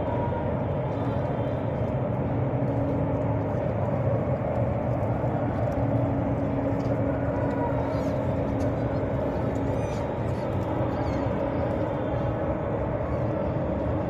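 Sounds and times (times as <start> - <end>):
engine running low rumble: 0.0 - 14.0
faint steady hum: 0.0 - 14.0.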